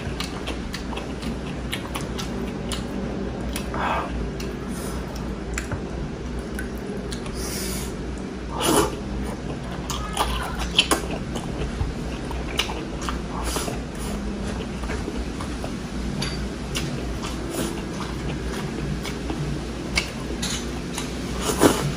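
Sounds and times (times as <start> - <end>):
wet chewing: 0.0 - 7.5, 8.1 - 15.9, 16.6 - 21.9.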